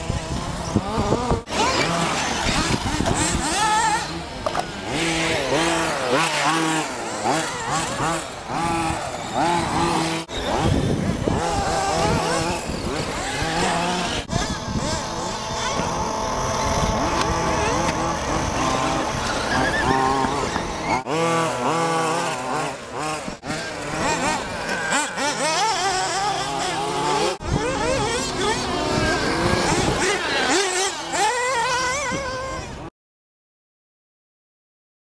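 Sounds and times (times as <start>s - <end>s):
electric motor whining: 0.0s - 32.9s.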